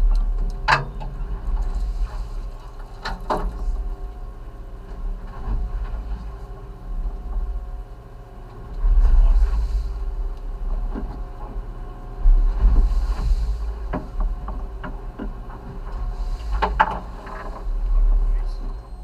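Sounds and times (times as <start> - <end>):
boat engine running: 0.0 - 19.0
low rumble: 0.0 - 19.0.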